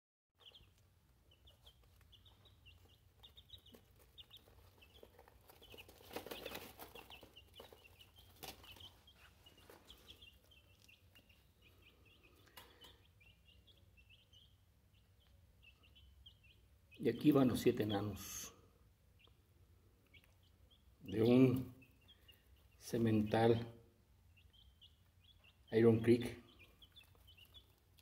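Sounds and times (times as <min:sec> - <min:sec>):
chicks peeping: 0:00.4 - 0:28.0.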